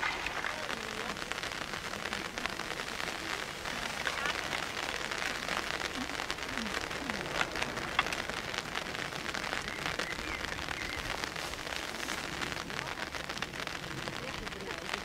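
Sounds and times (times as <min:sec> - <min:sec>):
sharp raindrop hits: 0:00.0 - 0:15.0
steady rain falling: 0:00.0 - 0:15.0.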